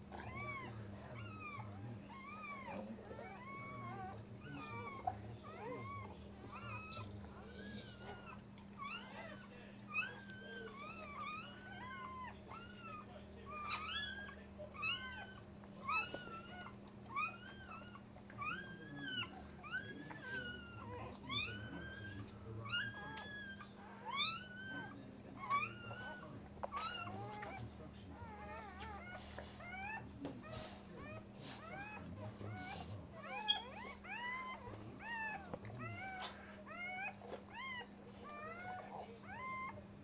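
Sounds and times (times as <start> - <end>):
puppy crying squeals: 0.1 - 39.9.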